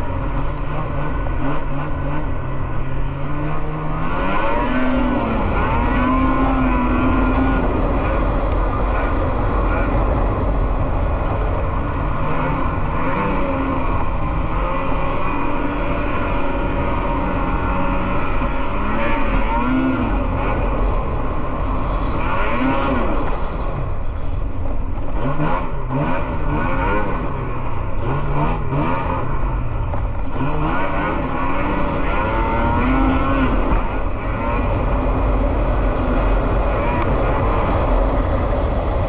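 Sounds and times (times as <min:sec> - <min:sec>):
snowmobile engines revving: 0:00.0 - 0:39.0.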